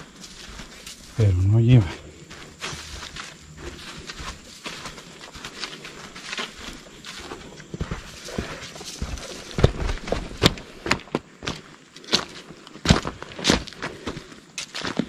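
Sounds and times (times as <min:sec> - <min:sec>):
footsteps crunching on rock: 0:00.0 - 0:15.0.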